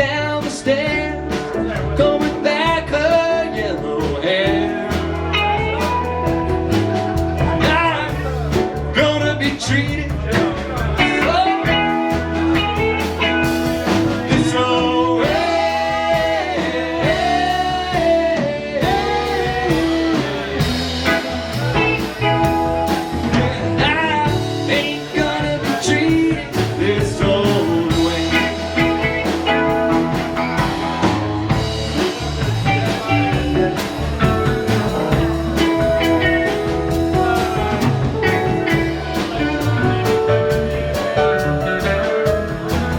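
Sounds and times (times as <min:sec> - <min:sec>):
bass: 0:00.0 - 0:42.9
drums: 0:00.0 - 0:42.9
electric lead guitar: 0:00.0 - 0:42.9.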